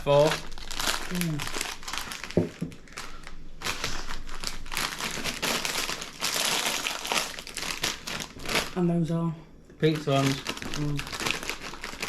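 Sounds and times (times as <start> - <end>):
plastic packaging crinkling: 0.0 - 8.9, 9.8 - 12.0.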